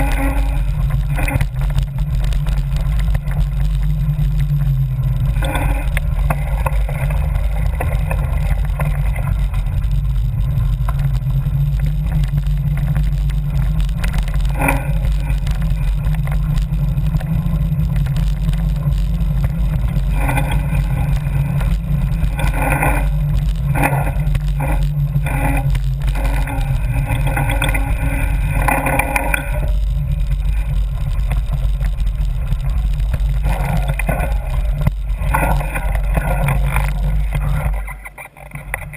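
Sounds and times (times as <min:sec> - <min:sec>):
bike clattering over bumps: 0:00.0 - 0:38.9
wind and road rumble: 0:00.0 - 0:38.9.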